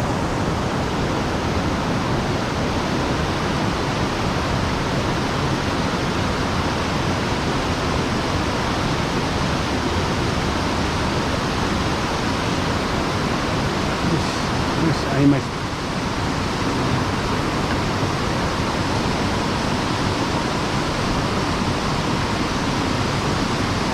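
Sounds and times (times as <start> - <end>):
stream water rushing: 0.0 - 23.9.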